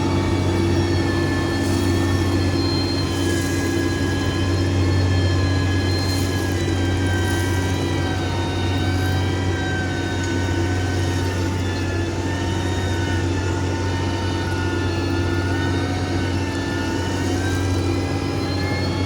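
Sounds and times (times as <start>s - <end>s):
heavy machine engine droning: 0.0s - 19.0s
high engine whine: 0.0s - 19.0s.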